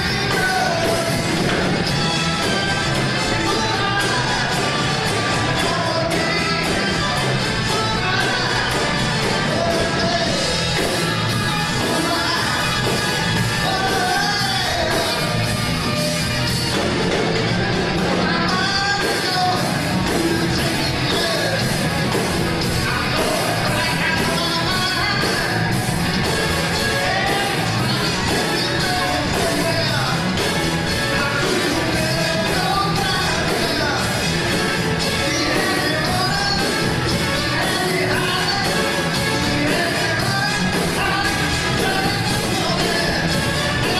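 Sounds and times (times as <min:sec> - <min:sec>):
lead vocalist singing: 0:00.0 - 0:16.1, 0:17.2 - 0:43.9
drums beating: 0:00.0 - 0:43.9
live band playing: 0:00.0 - 0:43.9.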